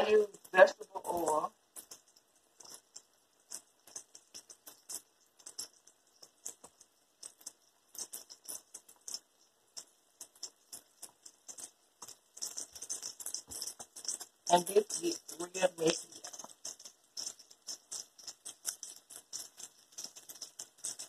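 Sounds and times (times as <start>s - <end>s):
bacon frying in oil: 0.0s - 21.0s
crackles and pops of oil: 0.0s - 21.0s.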